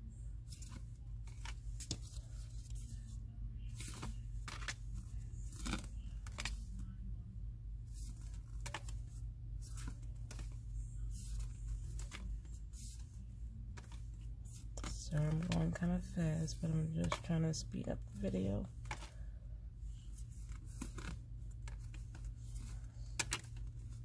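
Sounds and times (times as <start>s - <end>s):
steady low hum: 0.0s - 24.0s
postcards shuffled by hand: 0.4s - 6.8s, 7.9s - 19.3s, 19.9s - 24.0s.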